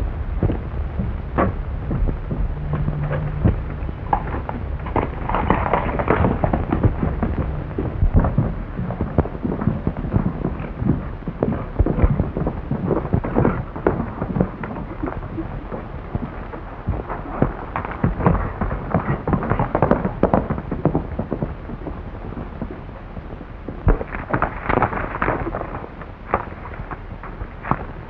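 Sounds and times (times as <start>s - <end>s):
film soundtrack crackling and popping: 0.0s - 28.0s
low hum: 0.0s - 28.0s.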